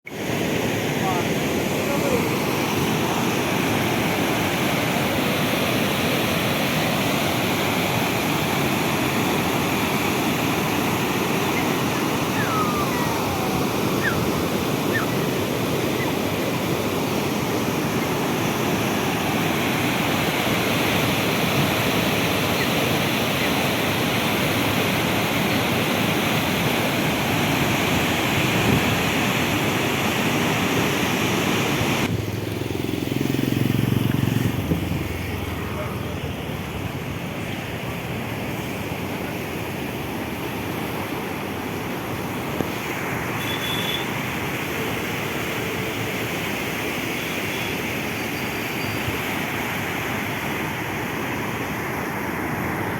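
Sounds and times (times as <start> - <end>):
river water rushing: 0.1 - 52.9.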